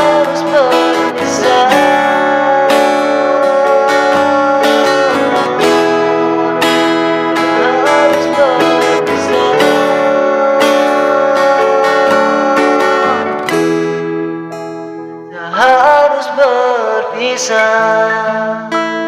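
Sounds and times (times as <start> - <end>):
keyboard instrumental music: 0.0 - 19.0.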